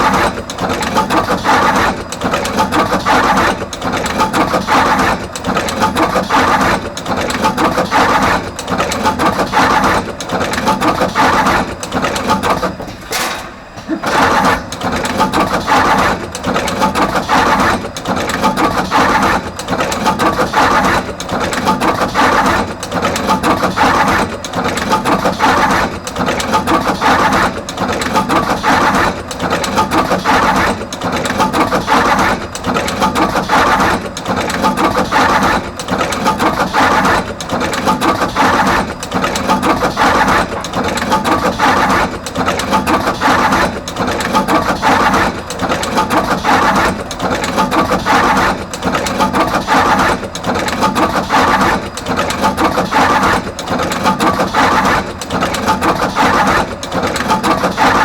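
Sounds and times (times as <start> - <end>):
wire crimping machine cycling: 0.0 - 58.0.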